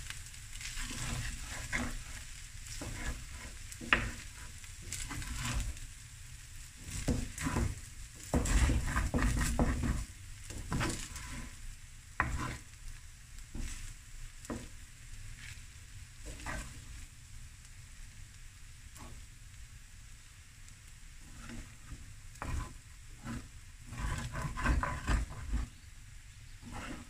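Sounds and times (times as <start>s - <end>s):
spatula stirring and scraping: 0.0s - 12.9s, 13.5s - 17.1s, 19.0s - 19.3s, 21.2s - 25.9s, 26.5s - 27.0s
rice sizzling in a hot pan: 0.0s - 27.0s.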